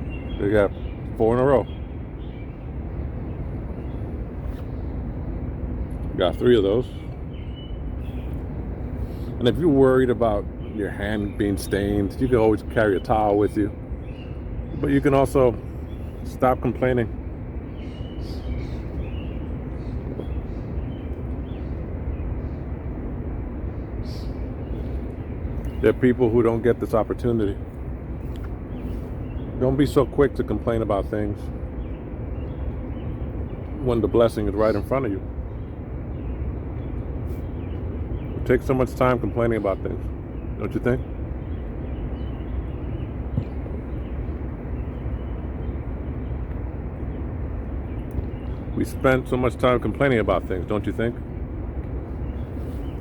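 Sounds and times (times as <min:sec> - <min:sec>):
faint bird chirps: 0:00.0 - 0:53.0
steady low rumble: 0:00.0 - 0:53.0.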